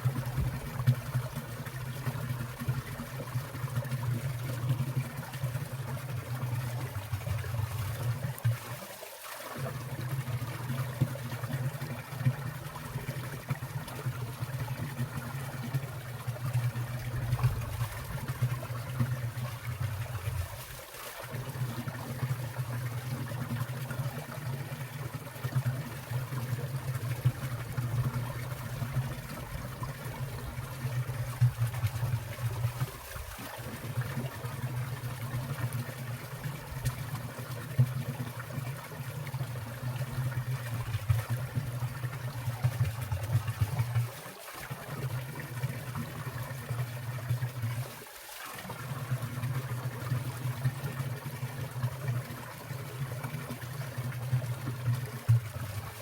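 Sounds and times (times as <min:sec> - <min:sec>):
small water splashes: 0:00.0 - 0:56.0
stream water rushing and trickling: 0:00.0 - 0:56.0.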